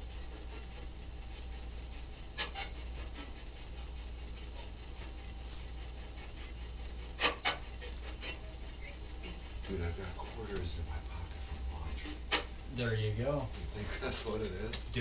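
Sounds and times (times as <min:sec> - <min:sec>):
faint clicks: 0:00.0 - 0:15.0
steady low hum: 0:00.0 - 0:15.0.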